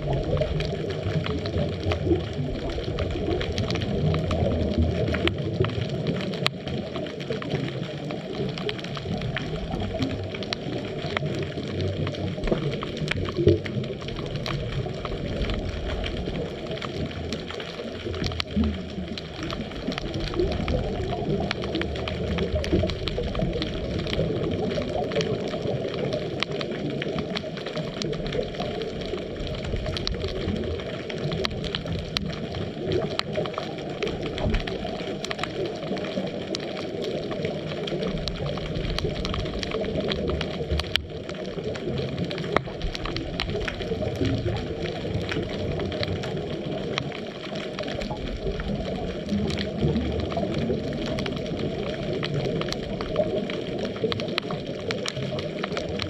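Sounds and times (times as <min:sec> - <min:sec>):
faint crackling clicks: 0:00.0 - 0:56.0
muffled underwater rumble: 0:00.0 - 0:56.0.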